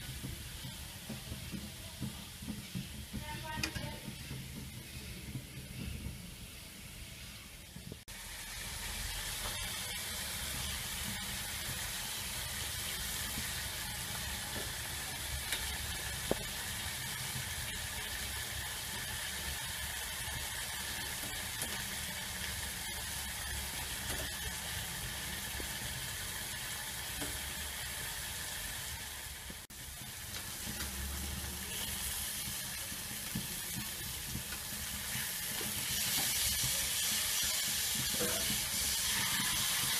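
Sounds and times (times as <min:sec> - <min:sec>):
oil crackling and popping: 0:00.0 - 0:06.4, 0:07.6 - 0:39.9
steaks sizzling in oil: 0:00.0 - 0:39.9.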